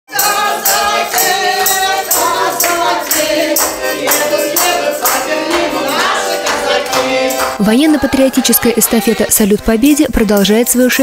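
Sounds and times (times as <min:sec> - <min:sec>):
tambourine beat: 0:00.1 - 0:09.2
person singing: 0:00.1 - 0:09.6
accordion: 0:00.1 - 0:11.0.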